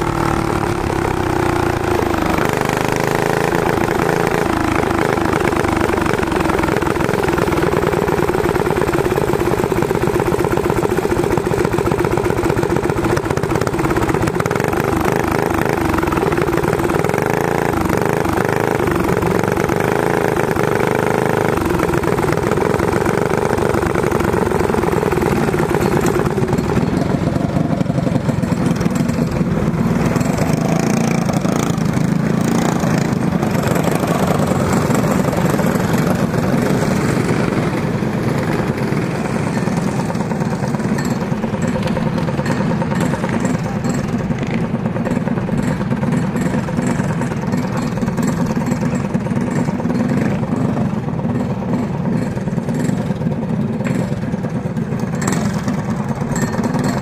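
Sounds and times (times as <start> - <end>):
small kart engine idling: 0.0 - 57.0.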